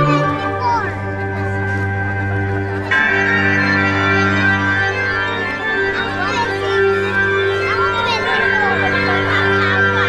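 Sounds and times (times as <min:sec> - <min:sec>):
held chord background music: 0:00.0 - 0:10.0.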